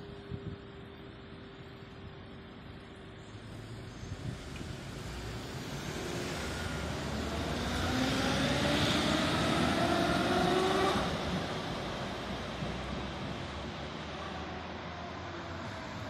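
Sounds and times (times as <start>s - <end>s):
tram motor whine: 0.0s - 16.0s
tram wheels rumbling on rails: 0.0s - 16.0s.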